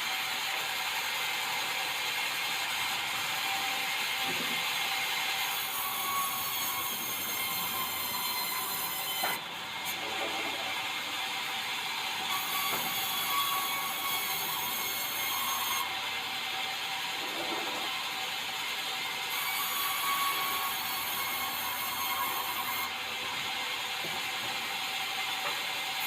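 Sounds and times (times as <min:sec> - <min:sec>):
circular saw cutting timber: 0:00.0 - 0:26.0.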